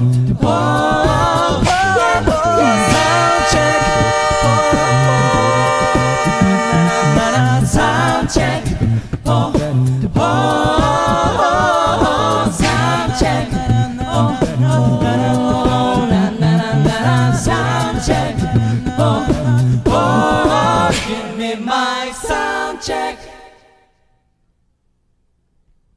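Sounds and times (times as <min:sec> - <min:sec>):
sung bass line: 0:00.0 - 0:21.0
male a cappella harmonies: 0:00.0 - 0:23.6
vocal percussion: 0:00.0 - 0:23.6.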